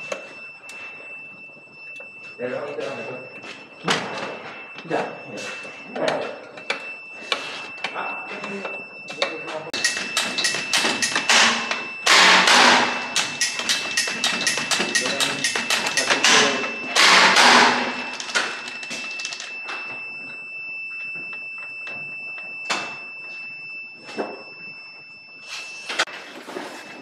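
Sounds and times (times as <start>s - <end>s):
steady high-pitched tone: 0.0s - 27.0s.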